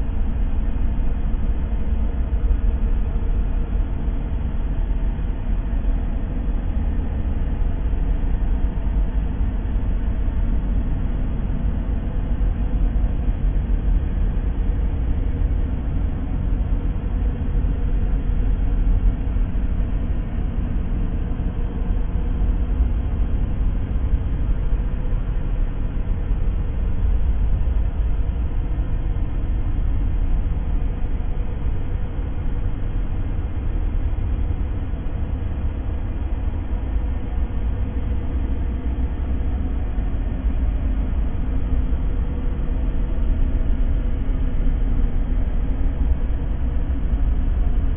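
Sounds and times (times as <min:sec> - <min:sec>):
steady low rumbling noise: 0:00.0 - 0:47.9.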